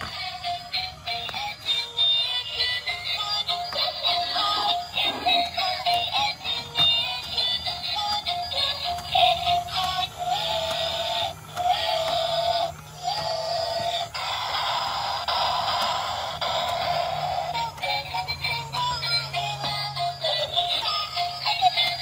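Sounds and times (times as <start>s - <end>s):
tinny electronic toy tune: 0.0s - 22.0s.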